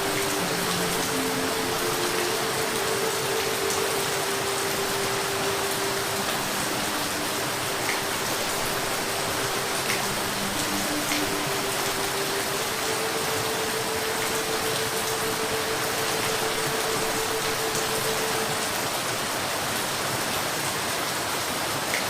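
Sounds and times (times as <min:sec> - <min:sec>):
raindrops ticking: 0:00.0 - 0:19.3
steady rain hiss: 0:00.0 - 0:22.0.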